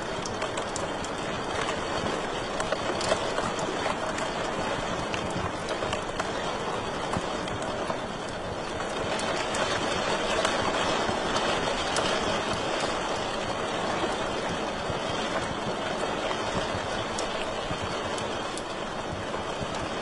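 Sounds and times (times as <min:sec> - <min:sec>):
fire crackles and pops: 0:00.0 - 0:20.0.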